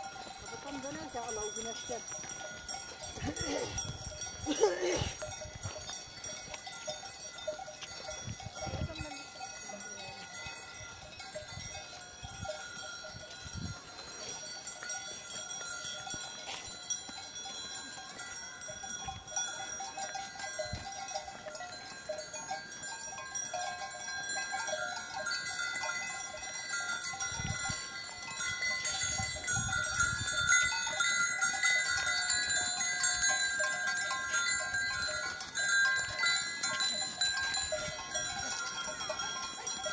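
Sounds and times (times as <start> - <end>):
cattle bells ringing: 0.0 - 39.9.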